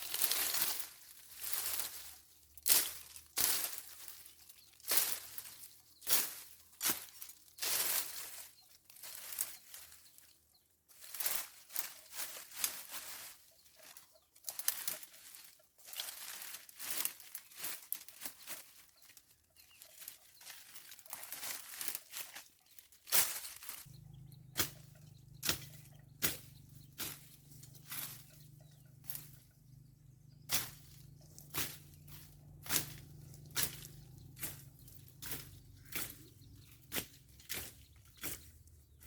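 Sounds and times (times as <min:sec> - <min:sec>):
hand tool cutting weeds: 0:00.0 - 0:10.2, 0:10.9 - 0:39.0.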